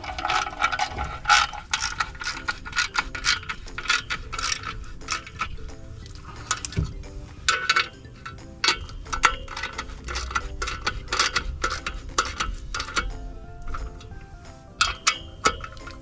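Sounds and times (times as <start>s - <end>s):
ratchet wrench clicking: 0.0s - 16.0s
metal socket clinks: 0.2s - 16.0s.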